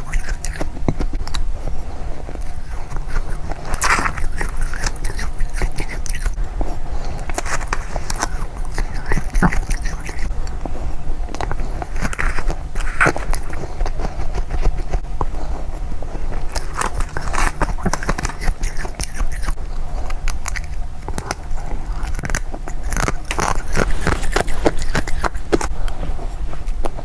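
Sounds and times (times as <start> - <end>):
crunching frost: 0.0 - 27.0.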